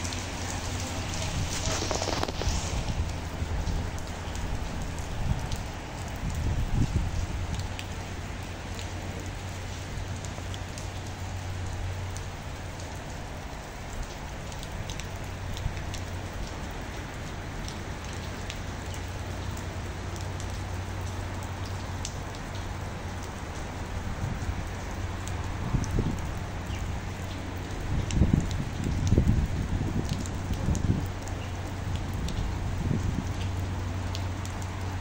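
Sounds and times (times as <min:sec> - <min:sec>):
heavy rain falling: 0:00.0 - 0:35.0
wind rumble on microphone: 0:00.0 - 0:35.0.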